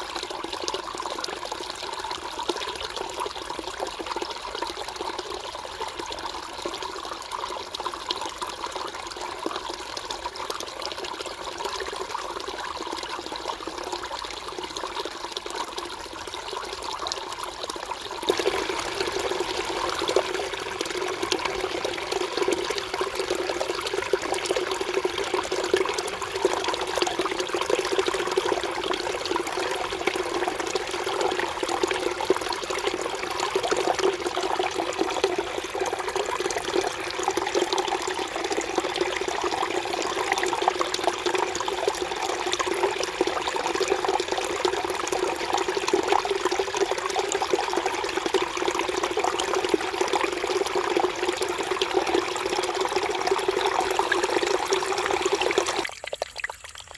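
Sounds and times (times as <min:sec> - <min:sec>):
stream flowing over rocks: 0:00.0 - 0:56.9.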